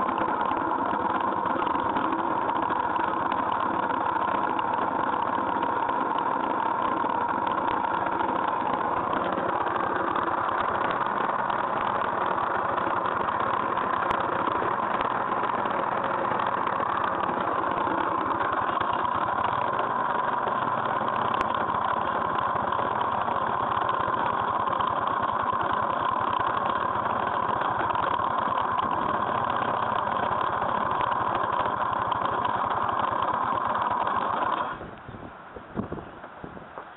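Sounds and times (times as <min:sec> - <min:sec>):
scooter engine idling: 0:00.0 - 0:35.1.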